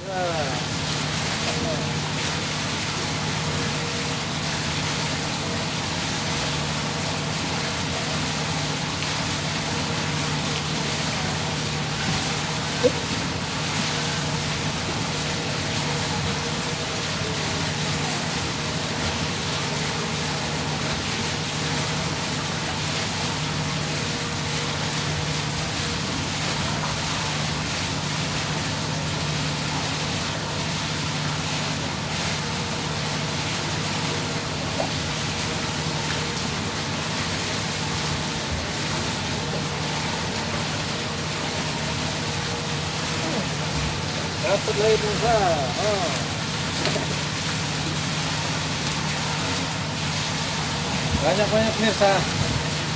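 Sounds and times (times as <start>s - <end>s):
water noise: 0.0s - 52.9s.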